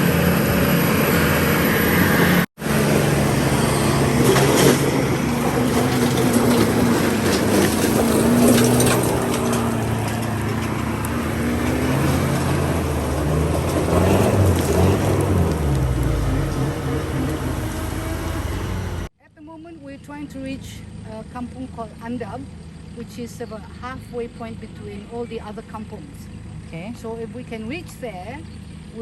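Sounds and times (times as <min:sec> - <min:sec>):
vehicle engines running hard: 0:00.0 - 0:19.1, 0:20.0 - 0:29.0.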